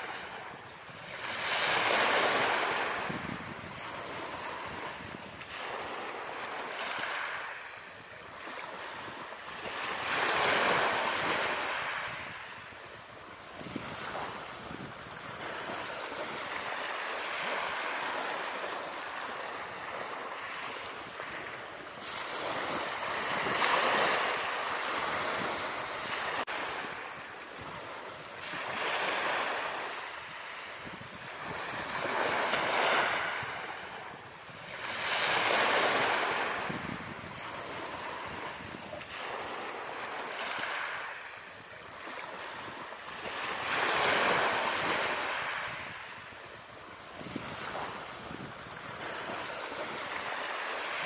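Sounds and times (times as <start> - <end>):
ocean waves breaking: 0.0 - 51.0.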